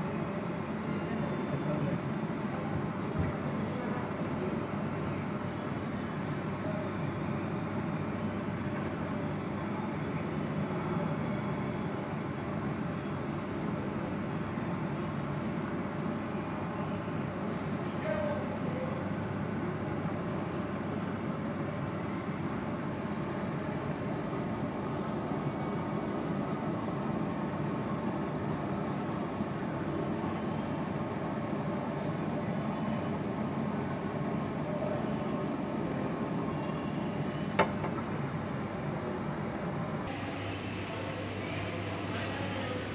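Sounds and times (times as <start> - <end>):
faint distant voices: 0.0 - 12.1, 16.4 - 22.6, 23.3 - 42.9.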